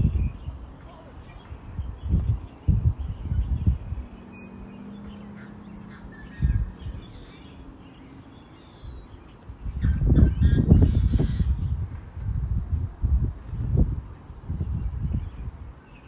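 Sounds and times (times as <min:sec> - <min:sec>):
birds chirping faintly: 0:00.0 - 0:16.0
wind gusting on microphone: 0:00.0 - 0:16.0.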